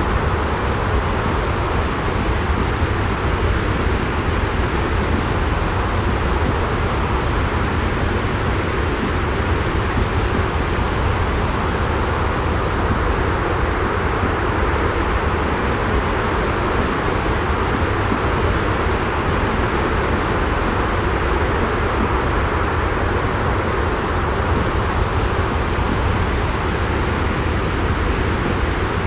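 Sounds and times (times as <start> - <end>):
white noise: 0.0 - 29.0.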